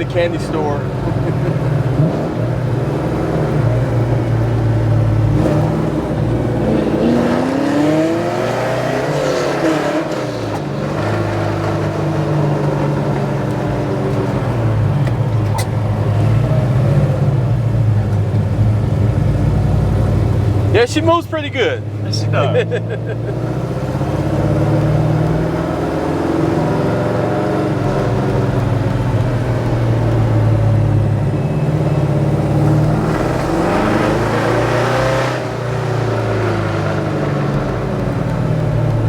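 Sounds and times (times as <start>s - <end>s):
car engine running hard: 0.0s - 39.0s.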